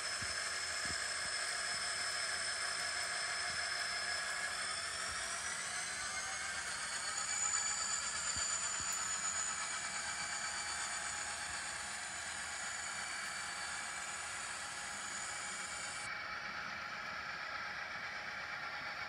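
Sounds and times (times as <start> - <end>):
faint high whine: 0.0 - 19.0
model train running: 0.0 - 19.0.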